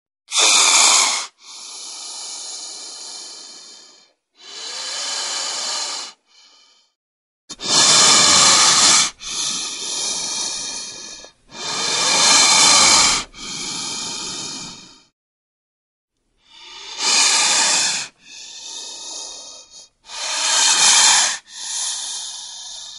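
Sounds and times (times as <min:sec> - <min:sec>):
snake hissing: 0:00.3 - 0:06.9, 0:07.5 - 0:15.1, 0:16.5 - 0:22.9.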